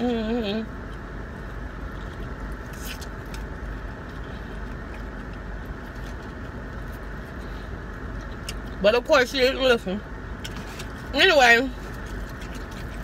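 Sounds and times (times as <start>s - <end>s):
car cabin rumble and hiss: 0.0s - 13.0s.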